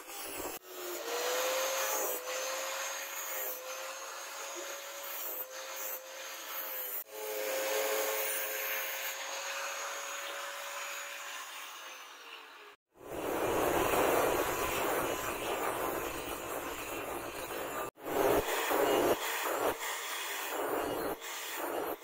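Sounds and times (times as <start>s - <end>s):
angle grinder grinding steel: 0.0s - 22.0s.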